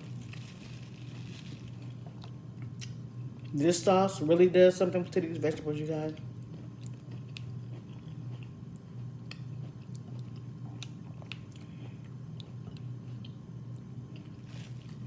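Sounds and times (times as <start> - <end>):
person chewing: 0.0 - 3.5, 6.2 - 15.0
steady low hum: 0.0 - 15.0.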